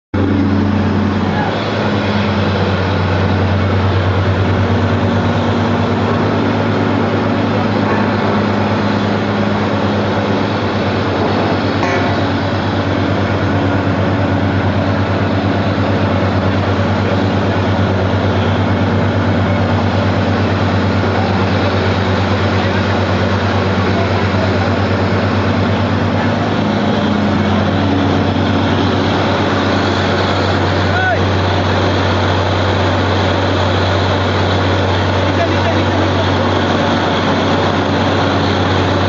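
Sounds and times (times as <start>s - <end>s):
drilling rig engine hum: 0.1s - 39.0s.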